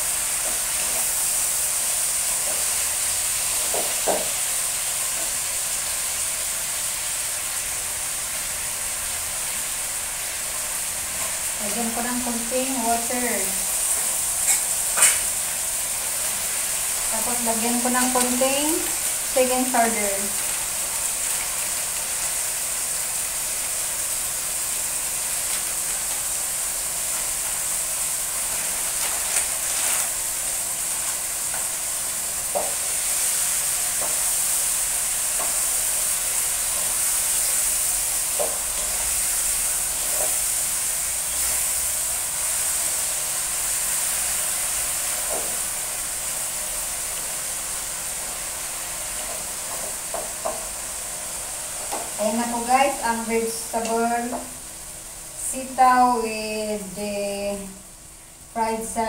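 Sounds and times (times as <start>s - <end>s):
vegetables sizzling in a wok: 0.0s - 59.0s.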